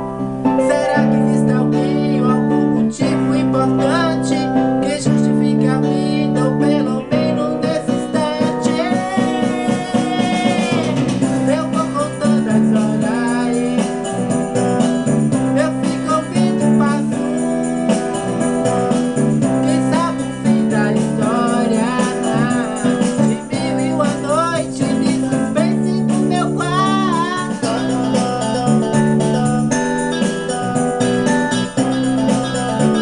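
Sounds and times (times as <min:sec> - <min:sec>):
pop song: 0:00.0 - 0:33.0.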